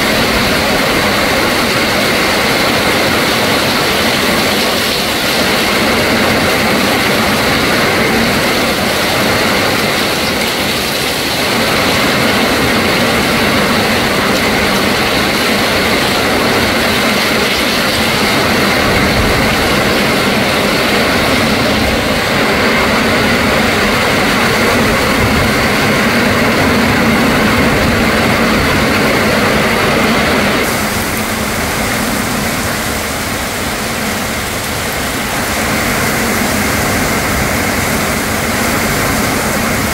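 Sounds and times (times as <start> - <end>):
heavy rain pouring: 0.0 - 39.9
wind gusting through trees: 0.0 - 39.9.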